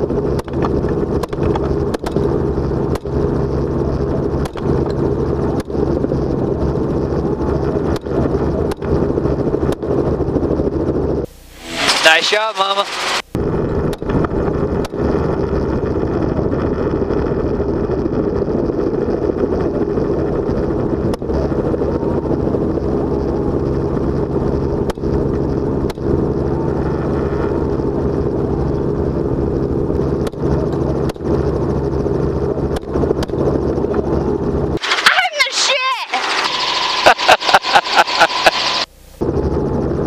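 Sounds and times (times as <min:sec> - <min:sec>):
helicopter rotor and engine drone: 0:00.0 - 0:40.0.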